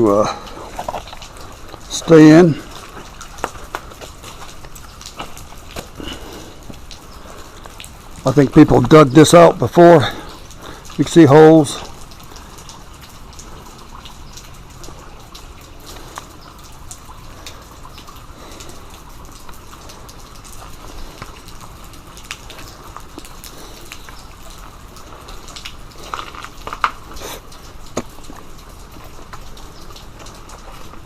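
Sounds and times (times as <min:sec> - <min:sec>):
water trickling and dripping: 0:00.0 - 0:31.0.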